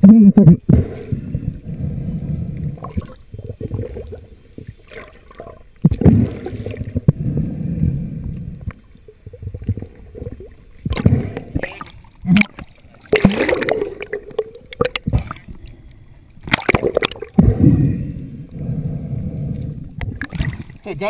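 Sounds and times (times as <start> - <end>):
muffled underwater water churning: 0.0 - 21.0.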